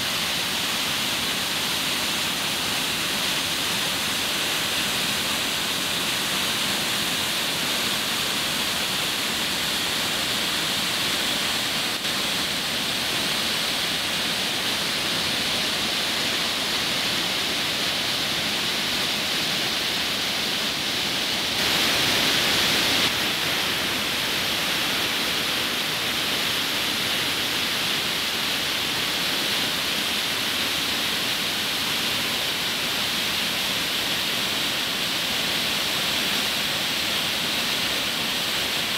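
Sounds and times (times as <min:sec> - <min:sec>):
waterfall and rapids rushing: 0:00.0 - 0:38.9.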